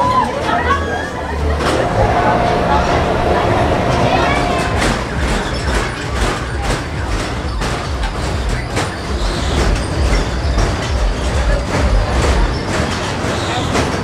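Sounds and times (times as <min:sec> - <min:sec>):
ride mechanical rumble: 0:00.0 - 0:14.0
mechanical clacks: 0:01.4 - 0:14.0.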